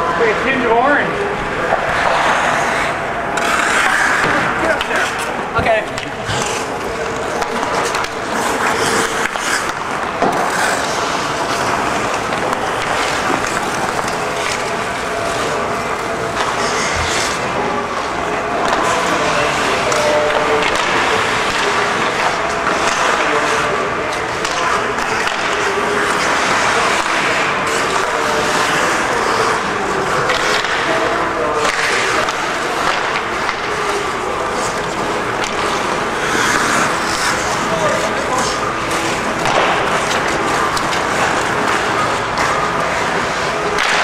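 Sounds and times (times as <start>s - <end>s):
hockey sticks and puck clacking: 0.0s - 44.0s
skates scraping on ice: 0.0s - 44.0s
steady hum: 0.0s - 44.0s.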